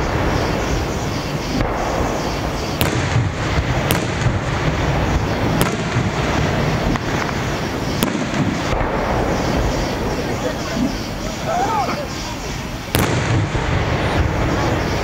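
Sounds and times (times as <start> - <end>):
sharp firework cracks: 0.0 - 10.3, 12.8 - 15.0
fireworks bursts rumbling: 0.0 - 15.0.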